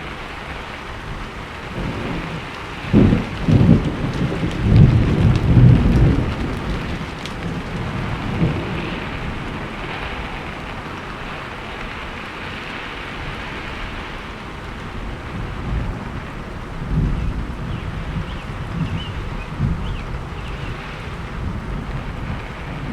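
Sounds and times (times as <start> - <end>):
heavy rain: 0.0 - 22.9
rolling thunder: 0.0 - 22.9.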